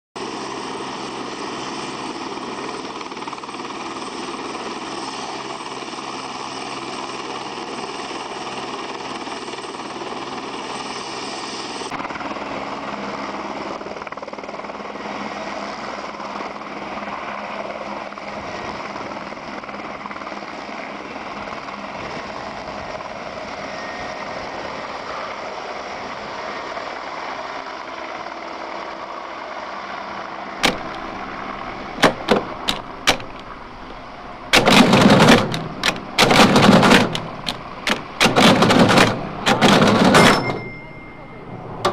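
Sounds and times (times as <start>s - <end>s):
helicopter engine whine: 0.2s - 41.9s
helicopter rotor beat: 0.2s - 41.9s.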